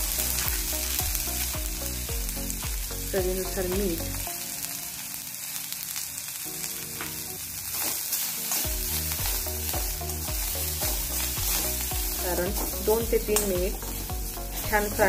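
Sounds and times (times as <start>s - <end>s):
herbs sizzling in hot oil: 0.0s - 15.0s
quiet background music: 0.0s - 15.0s.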